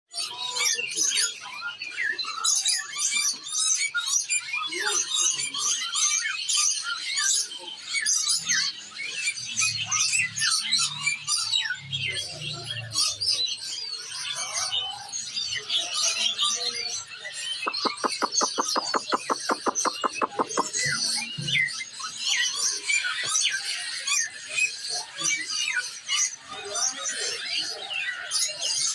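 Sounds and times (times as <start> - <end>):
songbirds chirping: 0.1 - 28.9.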